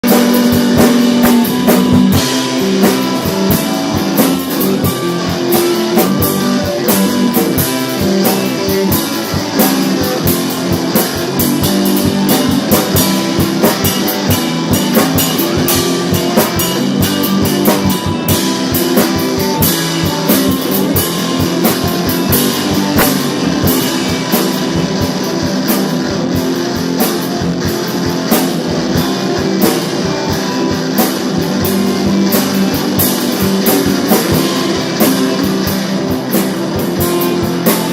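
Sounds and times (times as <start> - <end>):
drum kit steady beat: 0.0 - 37.9
electric guitar playing: 0.0 - 37.9.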